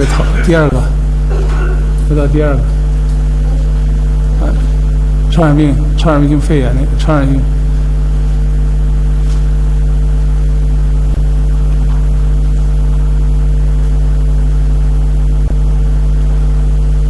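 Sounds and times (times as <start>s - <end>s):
loud electrical hum: 0.0s - 17.0s.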